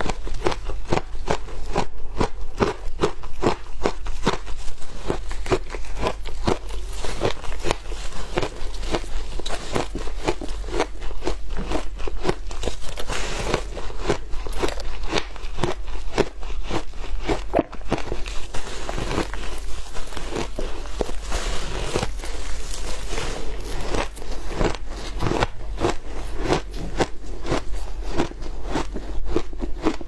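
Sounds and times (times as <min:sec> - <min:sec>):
ice crunching while chewed: 0:00.0 - 0:30.0.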